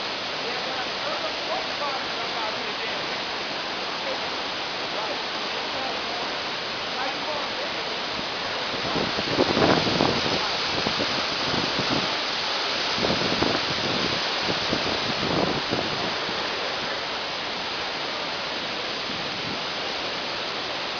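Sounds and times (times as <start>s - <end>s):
waterfall crashing: 0.0s - 20.9s.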